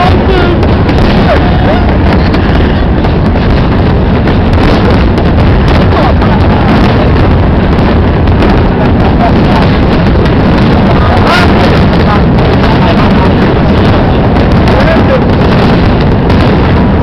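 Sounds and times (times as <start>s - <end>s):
fireworks bursting: 0.0s - 17.0s
wind noise on microphone: 0.0s - 17.0s.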